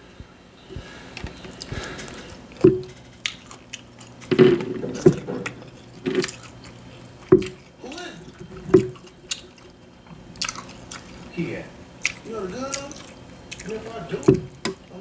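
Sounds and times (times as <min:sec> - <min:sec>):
wet chewing: 0:00.6 - 0:15.0
mouth smacks: 0:00.7 - 0:11.4, 0:12.0 - 0:14.9.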